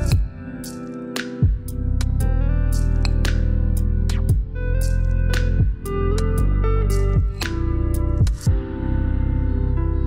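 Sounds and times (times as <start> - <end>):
low bass notes: 0.0 - 0.7, 1.4 - 10.0
guitar: 0.0 - 10.0.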